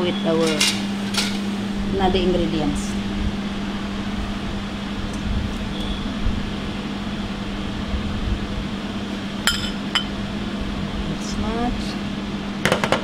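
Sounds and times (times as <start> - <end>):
kitchen machinery humming: 0.0 - 13.0.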